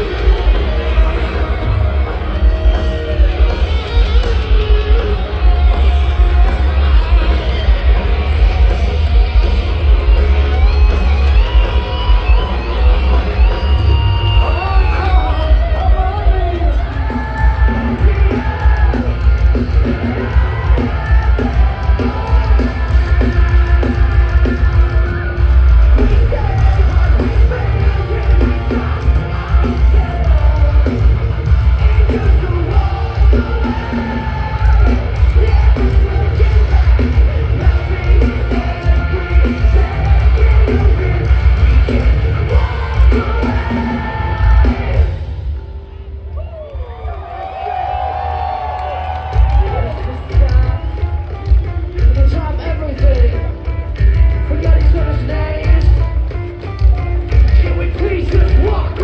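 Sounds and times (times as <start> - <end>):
live rock music with singer: 0.0 - 59.0.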